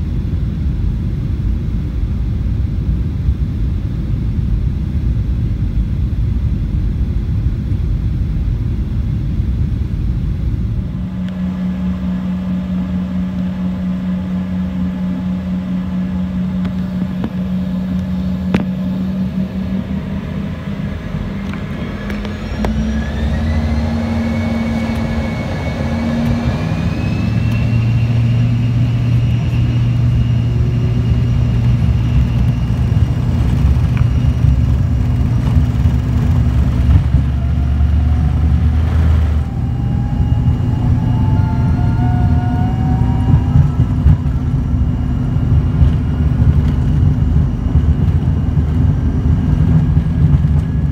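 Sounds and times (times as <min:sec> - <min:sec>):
jet engine whine: 0:00.0 - 0:50.9
low engine rumble: 0:00.0 - 0:50.9.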